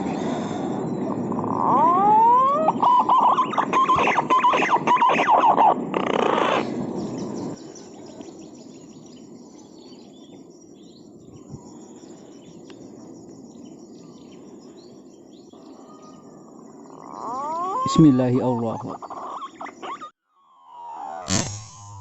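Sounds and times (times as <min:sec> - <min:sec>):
faint bird chirps: 0:00.0 - 0:22.0
insects: 0:00.0 - 0:22.0.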